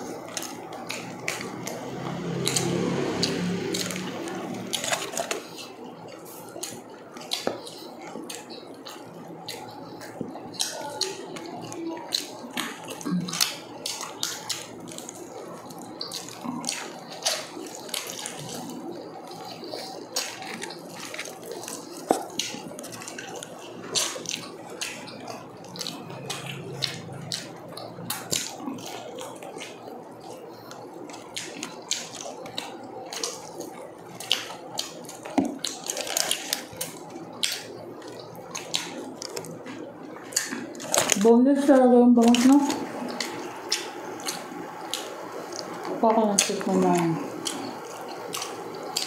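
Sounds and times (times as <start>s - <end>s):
chewing and lip smacking: 0.0s - 49.0s.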